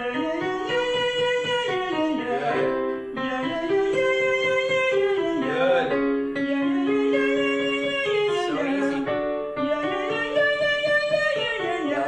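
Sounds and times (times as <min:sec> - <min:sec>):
instrumental accompaniment: 0:00.0 - 0:12.0
man singing vocal exercise: 0:00.0 - 0:12.0.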